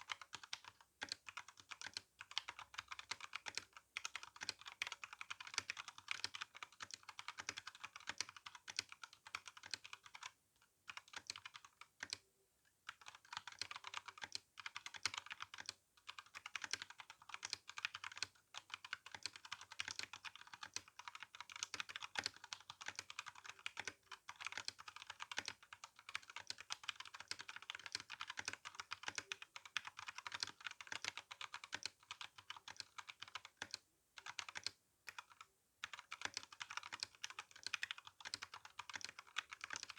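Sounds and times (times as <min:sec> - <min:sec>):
mechanical keyboard typing: 0:00.0 - 0:12.2, 0:12.9 - 0:39.9.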